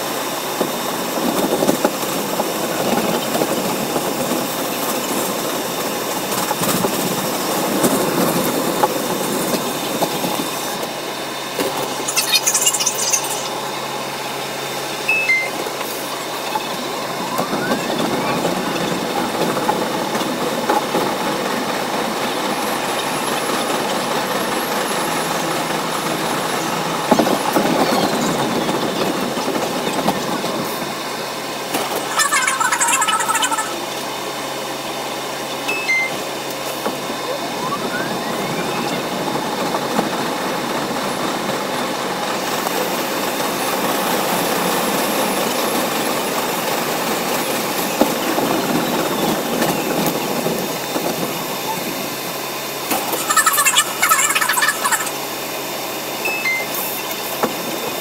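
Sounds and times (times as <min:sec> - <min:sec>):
subway train rumbling on track: 0:00.0 - 0:58.0.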